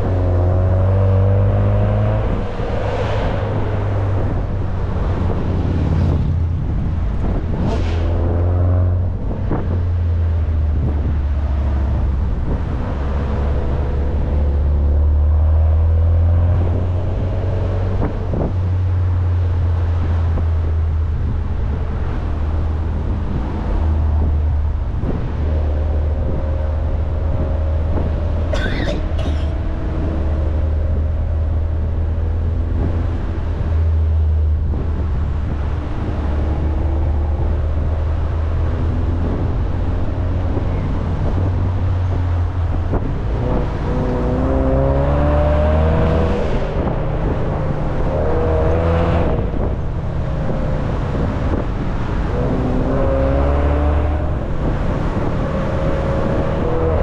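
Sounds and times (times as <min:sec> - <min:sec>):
car engine revving: 0:00.0 - 0:57.0
road noise low rumble: 0:00.0 - 0:57.0.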